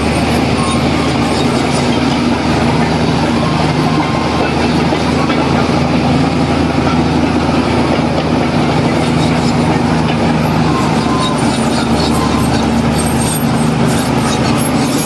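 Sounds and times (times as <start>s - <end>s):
heavy machinery engine drone: 0.0s - 15.0s.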